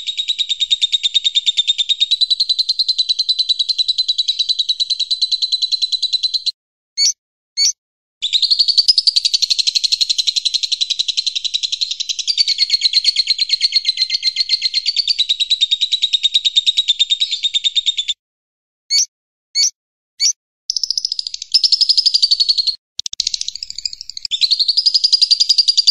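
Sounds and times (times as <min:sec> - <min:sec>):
songbird calls and trill: 0:00.0 - 0:18.2, 0:18.9 - 0:25.9.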